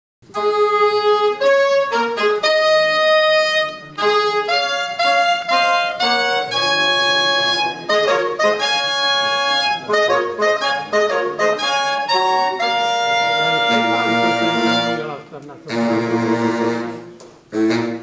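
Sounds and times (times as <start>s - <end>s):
saxophone ensemble playing march: 0.3s - 18.0s.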